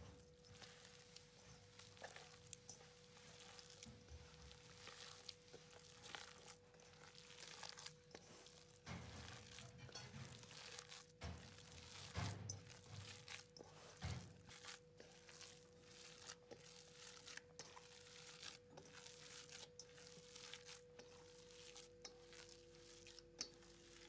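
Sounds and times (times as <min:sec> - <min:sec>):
hands squishing meat: 0:00.0 - 0:24.0.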